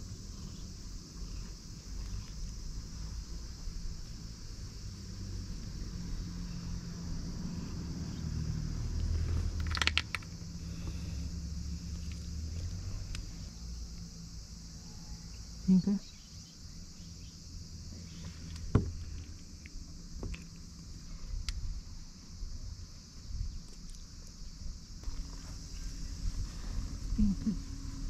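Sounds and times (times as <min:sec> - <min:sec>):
insects droning: 0:00.0 - 0:28.0
low steady hum: 0:00.0 - 0:28.0.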